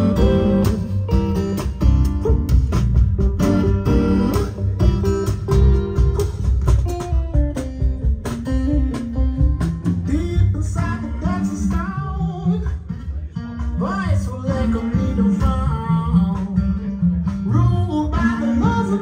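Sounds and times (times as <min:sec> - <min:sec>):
guitar music over bass: 0:00.0 - 0:19.0.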